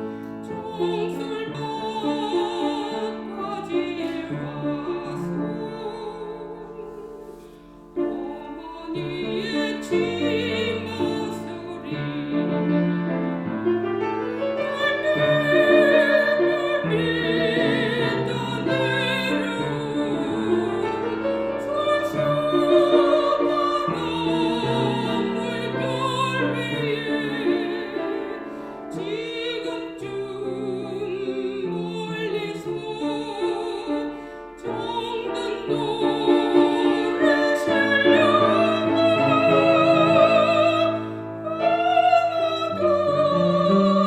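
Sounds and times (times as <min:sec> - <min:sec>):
piano accompaniment: 0:00.0 - 0:44.0
soprano singing with vibrato: 0:00.0 - 0:44.0.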